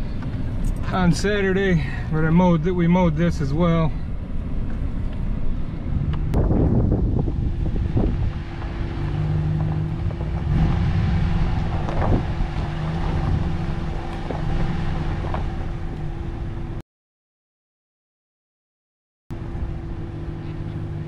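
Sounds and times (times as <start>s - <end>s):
road noise: 0.0s - 16.8s, 19.3s - 21.0s
vehicle engine droning: 0.0s - 16.8s, 19.3s - 21.0s.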